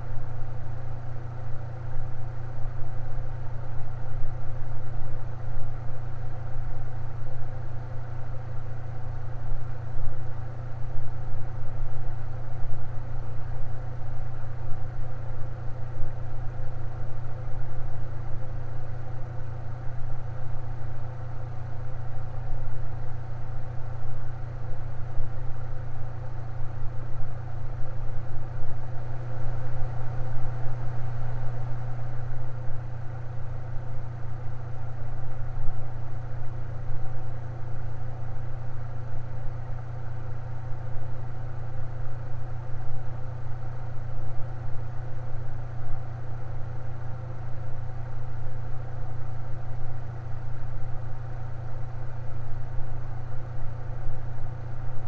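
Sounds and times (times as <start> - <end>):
electric fan humming: 6.4 - 55.0.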